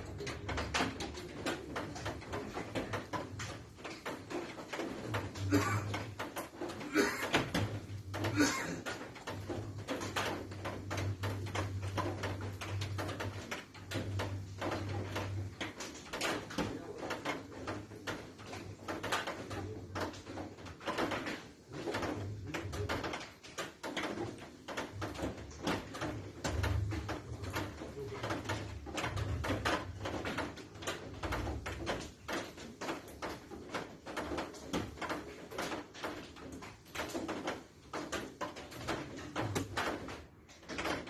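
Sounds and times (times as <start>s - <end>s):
knocks and clatter: 0.0s - 41.0s.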